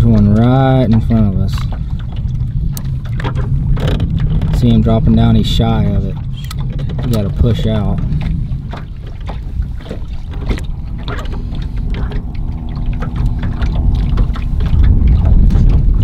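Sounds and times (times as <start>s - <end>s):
motor hum: 0.0s - 16.0s
water slapping hull: 0.0s - 16.0s
wind buffeting microphone: 0.0s - 16.0s
knocks on boat: 0.1s - 16.0s.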